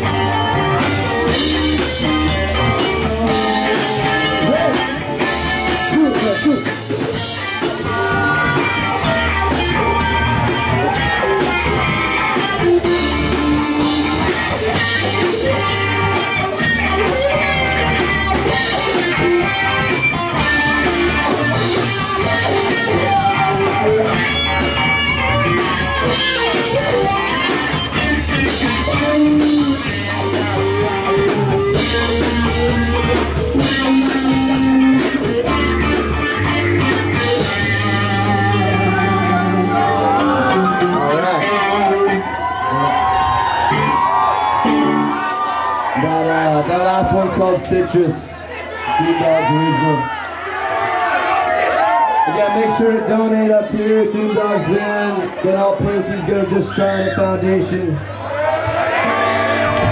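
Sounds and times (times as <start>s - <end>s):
bass: 0.0s - 59.9s
drums: 0.0s - 59.9s
electric guitar lead: 0.0s - 59.9s.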